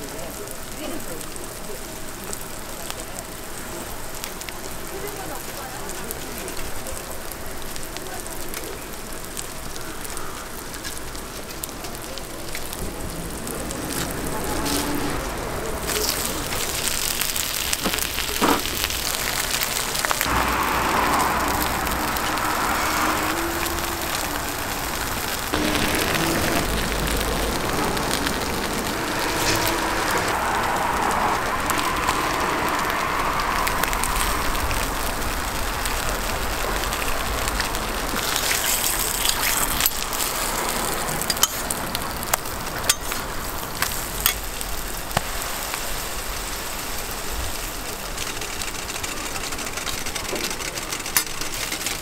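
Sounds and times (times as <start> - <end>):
food sizzling on griddle: 0.0 - 52.0.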